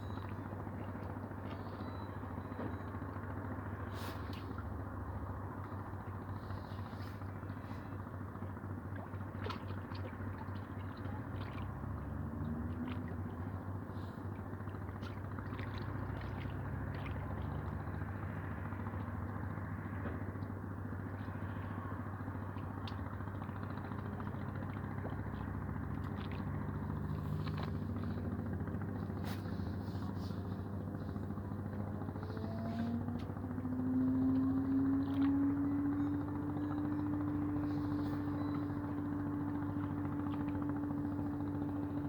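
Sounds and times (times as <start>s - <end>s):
motor engine running: 0.0s - 42.0s.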